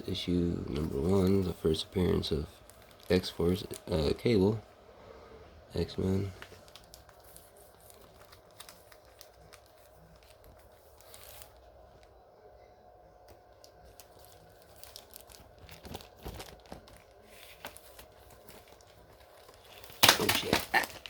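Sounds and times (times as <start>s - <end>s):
plastic bags crinkling: 0.6s - 4.6s, 5.8s - 12.1s, 13.2s - 21.0s.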